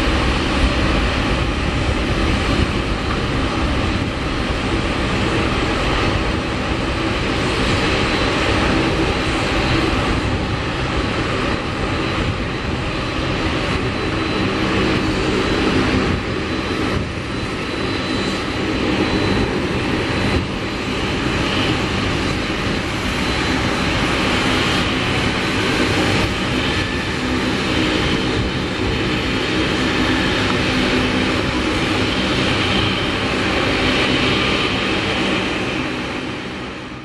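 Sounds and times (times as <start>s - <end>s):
jet engines at takeoff: 0.0s - 37.0s.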